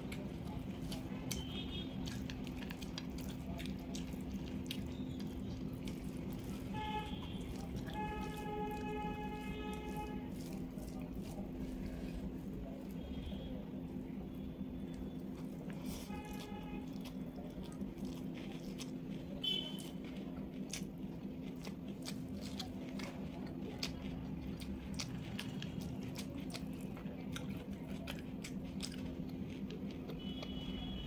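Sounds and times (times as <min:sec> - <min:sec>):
wet mouth clicks and crunches: 0:00.0 - 0:12.0, 0:14.9 - 0:31.0
chewing and biting food: 0:00.0 - 0:31.0.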